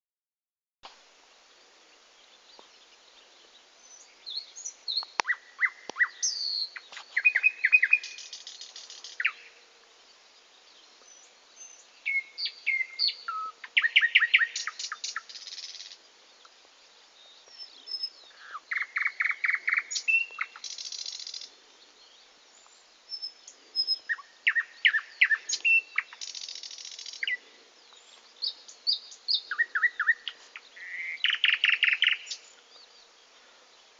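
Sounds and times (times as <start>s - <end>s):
songbird singing: 0.8s - 33.9s.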